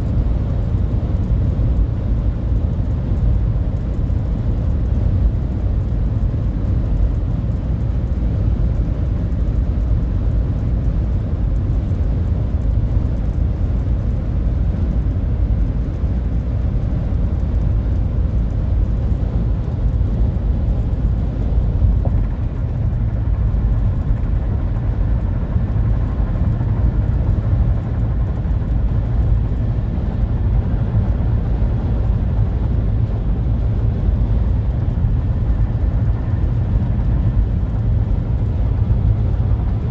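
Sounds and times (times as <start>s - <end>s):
road rumble inside car cabin: 0.0s - 39.9s.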